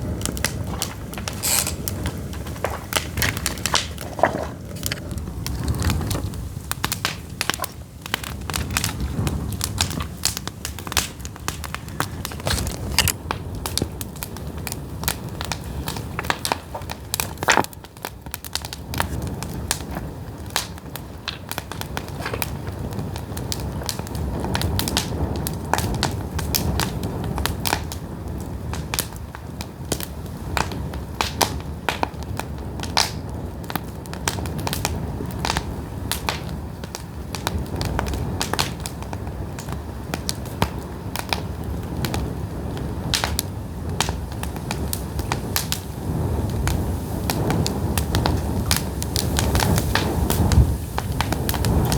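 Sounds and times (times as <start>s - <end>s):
firewood crackling and popping: 0.0s - 51.9s
low rush of flames: 0.0s - 51.9s.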